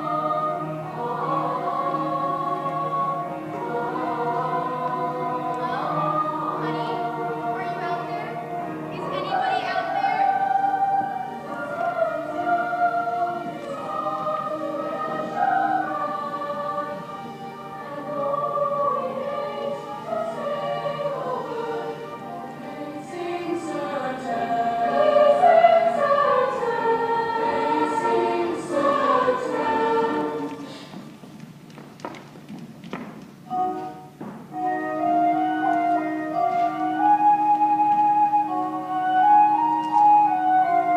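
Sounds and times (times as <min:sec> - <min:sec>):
choir of young voices singing: 0:00.0 - 0:31.1, 0:33.5 - 0:40.9.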